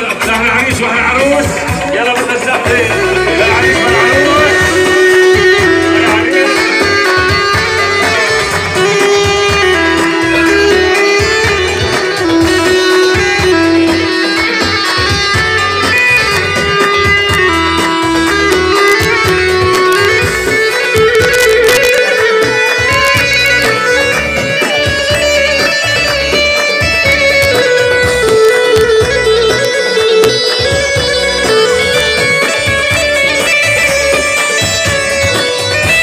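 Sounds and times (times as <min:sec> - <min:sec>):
keyboard melody: 0:00.0 - 0:36.0
tabl drum beat: 0:00.0 - 0:36.0.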